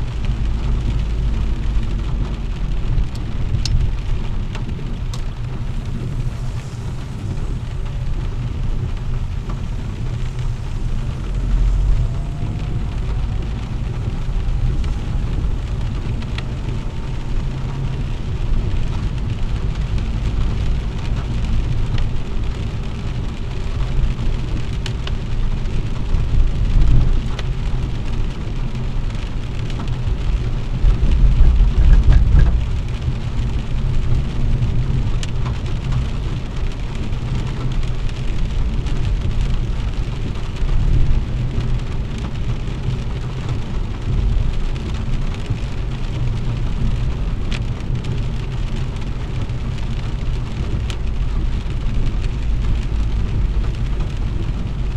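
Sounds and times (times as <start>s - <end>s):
heavy rain on a car: 0.0s - 54.9s
tyres rumbling on wet road: 0.0s - 54.9s
raindrops ticking on glass: 7.6s - 54.9s.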